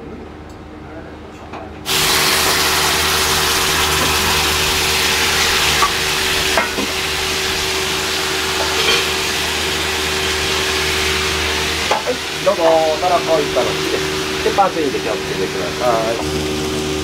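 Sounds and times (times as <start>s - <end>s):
steady low hum: 0.0s - 17.0s
pasta sizzling in frying pan: 1.9s - 17.0s.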